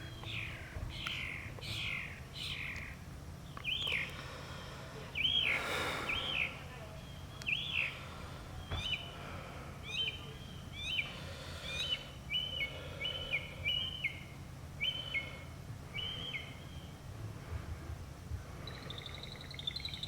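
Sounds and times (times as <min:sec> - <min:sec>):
mockingbird singing: 0:00.0 - 0:04.2, 0:05.1 - 0:17.0, 0:18.6 - 0:20.0.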